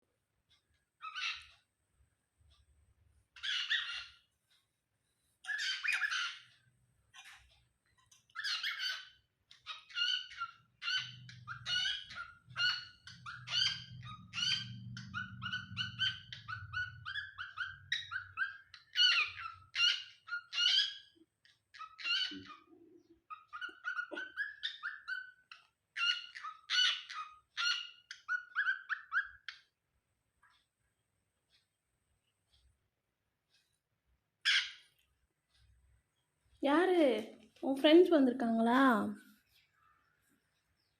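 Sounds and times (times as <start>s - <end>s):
birds chirping: 0.6s - 1.7s, 3.2s - 4.3s, 5.3s - 32.7s, 33.5s - 40.9s.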